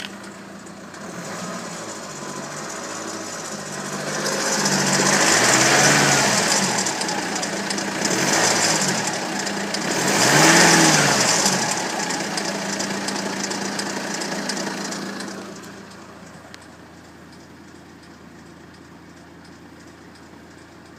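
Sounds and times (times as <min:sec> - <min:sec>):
diesel engine revving and idling: 0:00.0 - 0:20.9.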